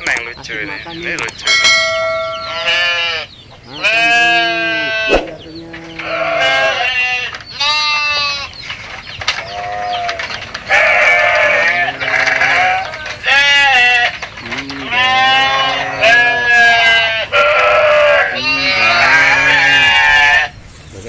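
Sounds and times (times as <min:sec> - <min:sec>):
goats bleating: 0:01.9 - 0:08.6, 0:09.4 - 0:20.6.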